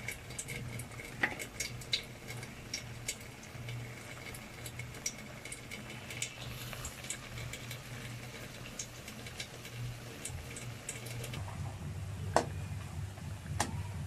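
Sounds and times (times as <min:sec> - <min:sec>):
sauce bubbling and popping: 0:00.0 - 0:11.4
steady low hum: 0:00.0 - 0:14.0.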